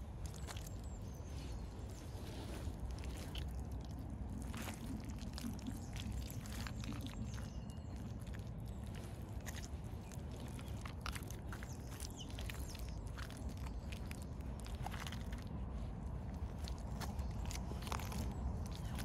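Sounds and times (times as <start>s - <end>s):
shoes squelching in wet mud: 0.0s - 19.0s
steady low rumble: 0.0s - 19.0s.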